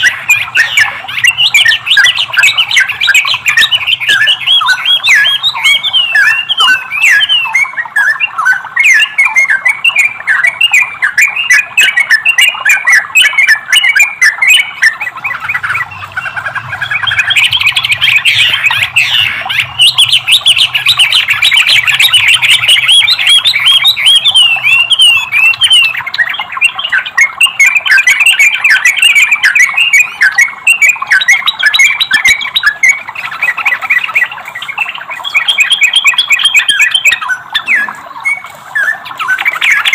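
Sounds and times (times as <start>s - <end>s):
bulbul chattering and warbling: 0.0s - 39.9s.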